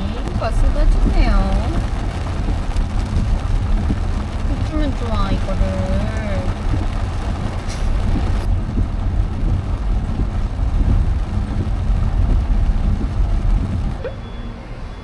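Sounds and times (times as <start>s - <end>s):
engine and tyres rumbling: 0.0s - 15.0s
rain on windscreen: 0.0s - 15.0s.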